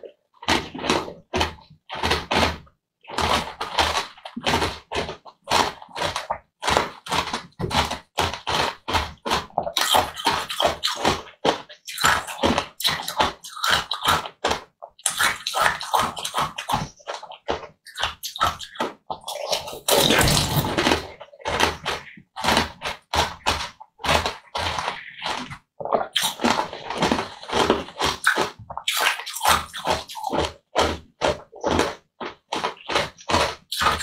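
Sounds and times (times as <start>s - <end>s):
wet chewing of jelly: 0.0s - 34.0s.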